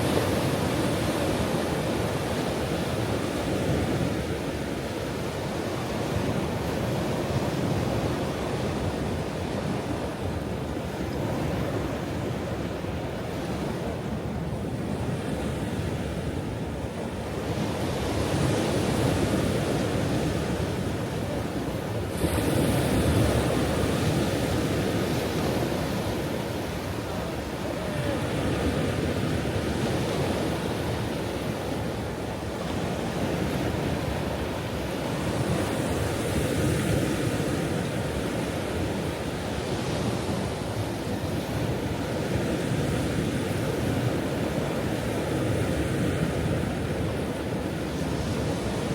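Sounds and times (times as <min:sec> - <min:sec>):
waves breaking: 0:00.0 - 0:48.9.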